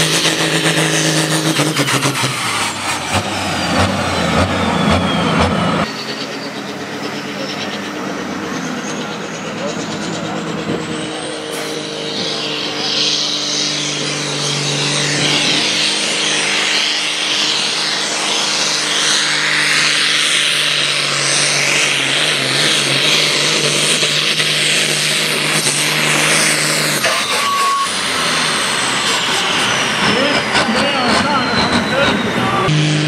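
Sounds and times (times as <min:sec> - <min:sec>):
high whine falling in pitch: 0:00.0 - 0:33.0
tractor diesel engine under load: 0:00.0 - 0:33.0.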